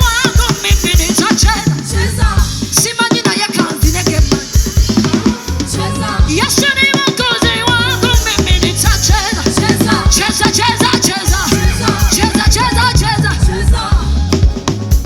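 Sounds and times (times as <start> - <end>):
drum kit beat: 0.0 - 15.0
worship band music: 0.0 - 15.0.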